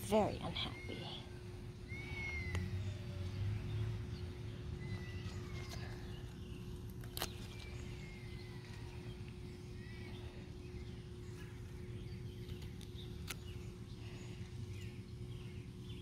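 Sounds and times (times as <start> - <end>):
distant high wavering cries: 0.0 - 16.0
steady low hum: 0.0 - 16.0.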